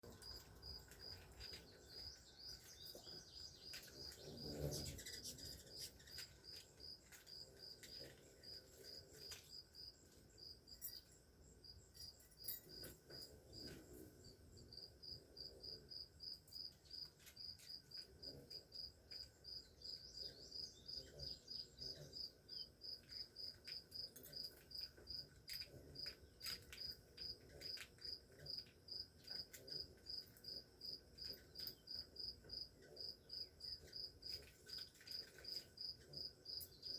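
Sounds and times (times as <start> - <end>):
cricket chirping: 0.0 - 36.9.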